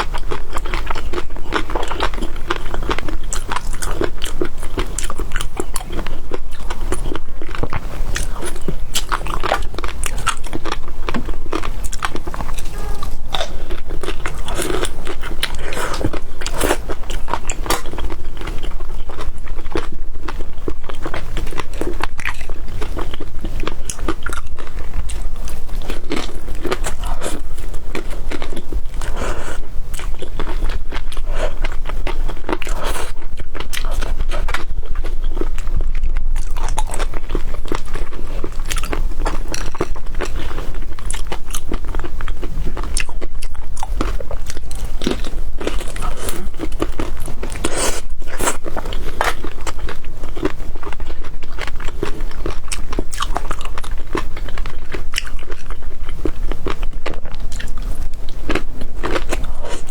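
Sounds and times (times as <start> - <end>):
person chewing and crunching: 0.0 - 59.9
steady low hum: 0.0 - 59.9.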